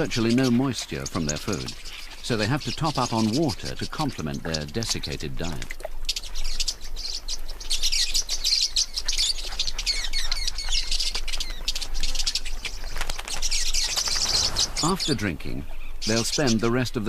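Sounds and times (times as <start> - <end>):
lovebirds chirping: 0.0 - 17.0.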